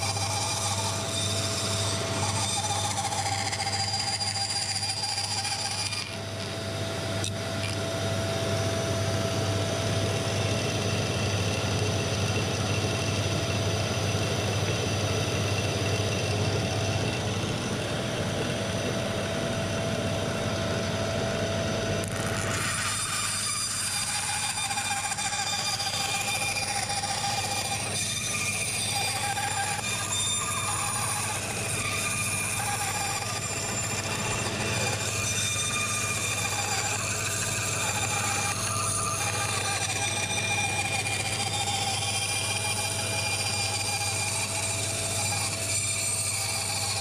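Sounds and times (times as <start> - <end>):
bandsaw cutting wood: 0.0 - 20.0, 21.9 - 47.0.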